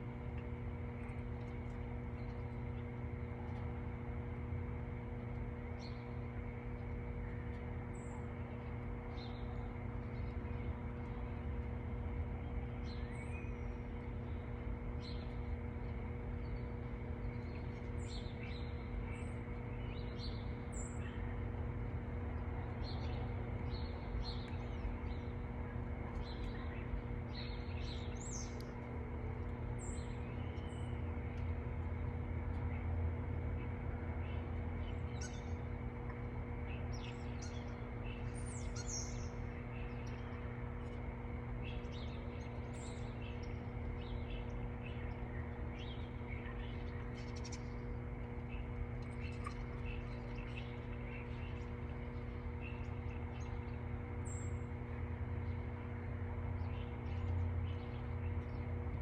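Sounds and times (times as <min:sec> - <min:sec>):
steady low hum: 0:00.0 - 0:59.0
small birds chirping: 0:00.4 - 0:59.0.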